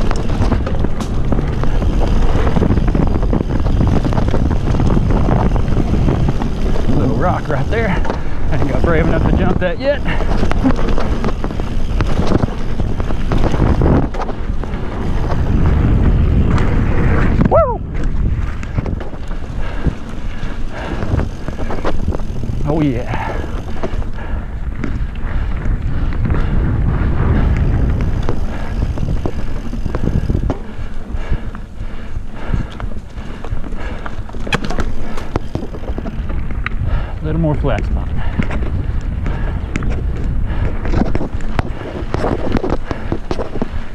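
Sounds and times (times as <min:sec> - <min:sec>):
bike clicks and rattles: 0:00.0 - 0:43.9
tyre rumble: 0:00.0 - 0:43.9
wind buffeting microphone: 0:00.0 - 0:43.9.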